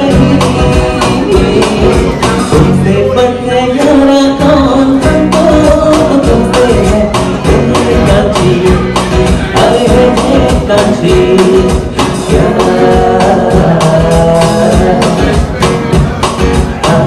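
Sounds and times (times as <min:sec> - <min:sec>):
guitar melody: 0:00.0 - 0:17.0
rhythmic guitar strumming: 0:00.0 - 0:17.0.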